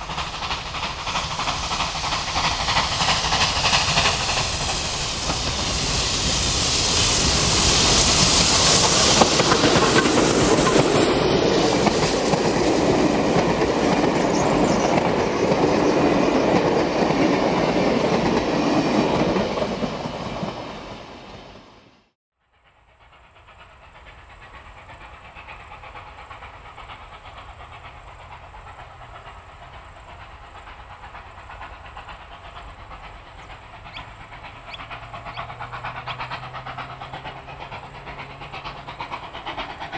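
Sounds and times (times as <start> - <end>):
carriages rolling on rails: 0.0 - 21.0, 22.8 - 39.9
distant steam locomotive: 0.0 - 39.9
steam locomotive exhaust and hiss: 0.0 - 39.9.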